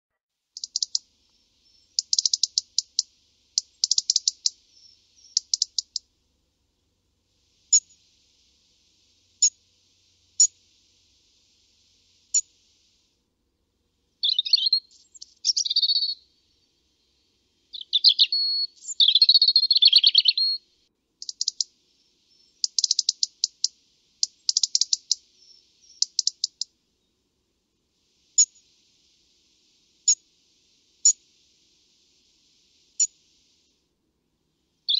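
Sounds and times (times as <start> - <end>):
robin warbling song: 0.5 - 6.8, 7.4 - 12.9, 14.1 - 27.2, 28.1 - 33.6
robin ticking calls: 0.5 - 13.0, 14.0 - 27.4, 28.0 - 33.8.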